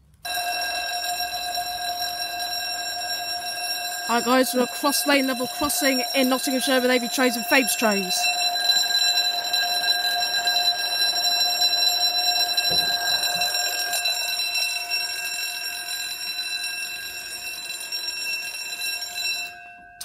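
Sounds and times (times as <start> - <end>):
level crossing warning alarm: 0.0 - 20.0.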